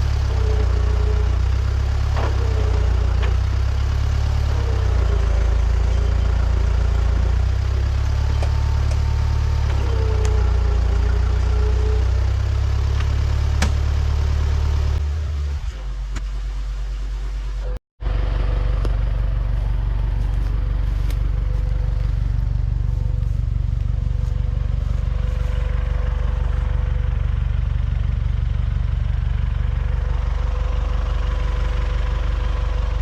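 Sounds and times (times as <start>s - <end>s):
heavy machinery engine: 0.0s - 33.0s.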